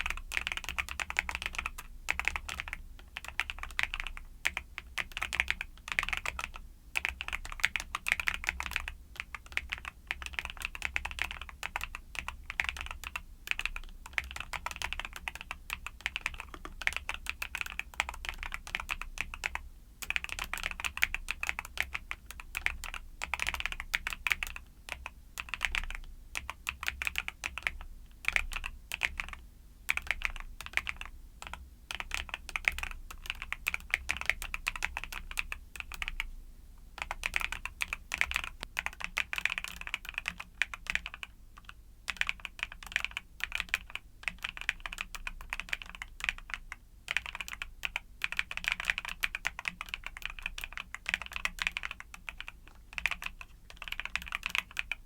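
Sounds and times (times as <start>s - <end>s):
mechanical keyboard typing: 0.0s - 36.3s, 37.0s - 55.0s.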